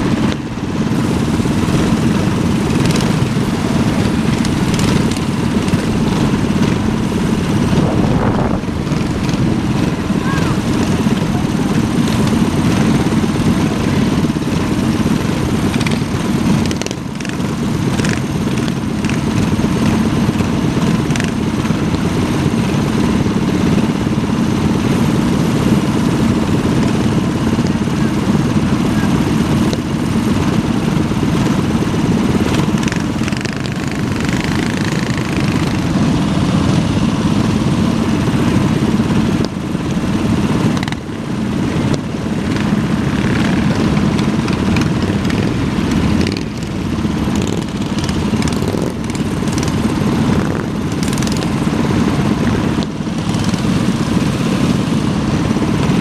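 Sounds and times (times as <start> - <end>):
minibike engines running: 0.0 - 56.0.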